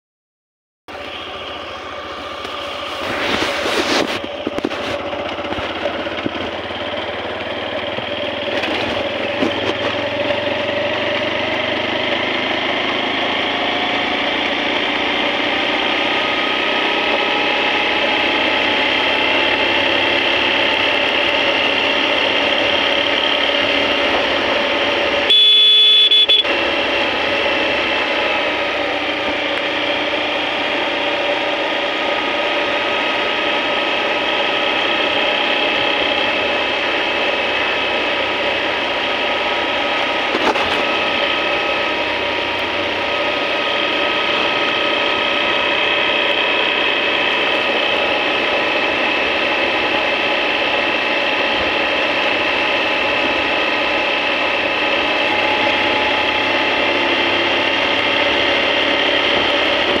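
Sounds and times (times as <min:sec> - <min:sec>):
motorcycle engine cruising: 0:00.9 - 1:00.0
wind and road noise: 0:00.9 - 1:00.0.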